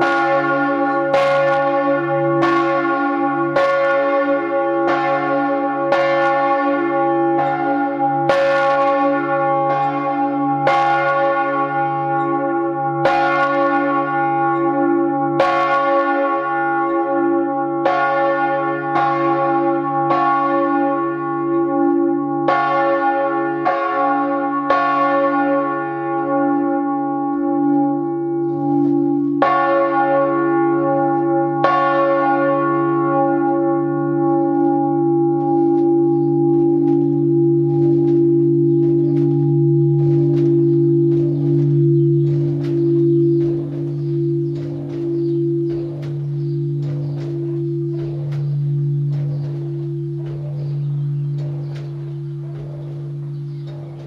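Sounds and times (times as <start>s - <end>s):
church bell ringing: 0.0s - 54.0s.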